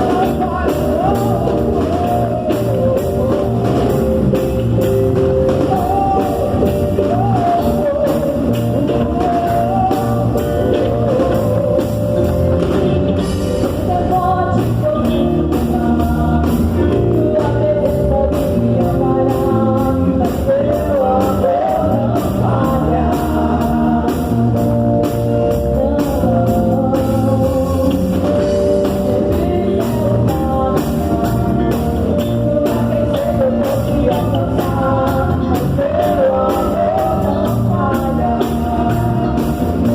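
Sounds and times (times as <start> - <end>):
drum kit: 0.0 - 39.9
electric guitar: 0.0 - 39.9
person singing: 0.0 - 39.9
rock praise song: 0.0 - 39.9.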